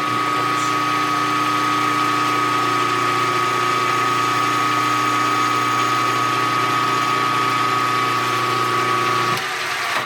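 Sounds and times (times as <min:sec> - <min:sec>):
milling machine spindle whine: 0:00.0 - 0:10.0.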